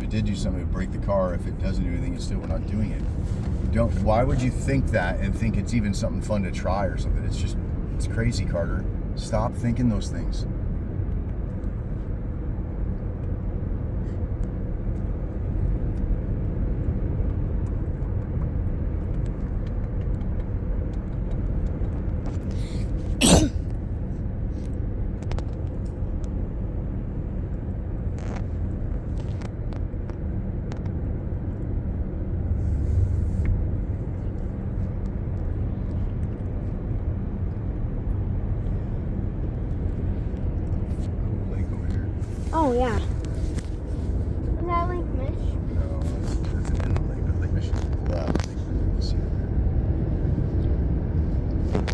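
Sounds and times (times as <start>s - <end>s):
car road and engine noise: 0.0s - 51.9s.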